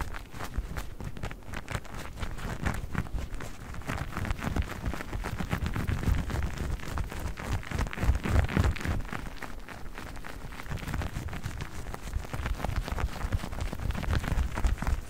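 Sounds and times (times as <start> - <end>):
fast tapping on sponges: 0.0 - 15.0.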